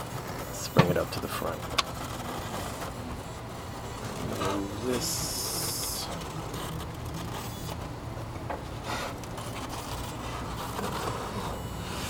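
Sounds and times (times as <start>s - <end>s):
foam scraping and rubbing: 0.0s - 8.0s, 8.7s - 12.0s.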